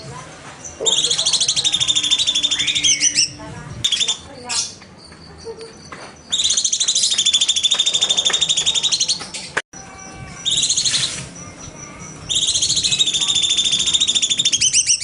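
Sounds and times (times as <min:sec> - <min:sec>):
bird singing chattering trill: 0:00.0 - 0:15.0.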